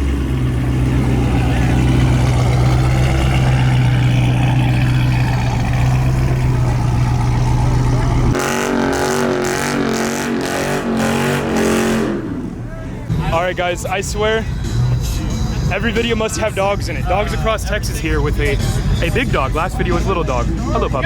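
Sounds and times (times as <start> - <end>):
car exhaust droning: 0.0 - 21.0.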